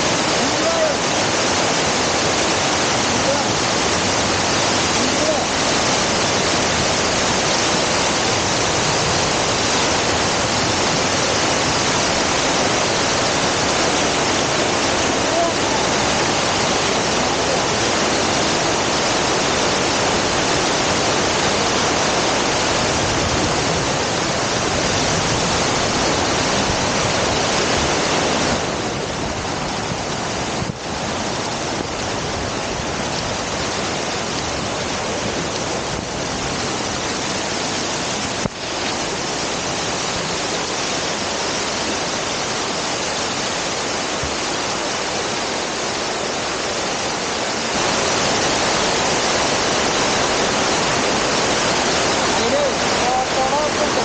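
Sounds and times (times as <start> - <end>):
water crashing over spillway: 0.0 - 54.0.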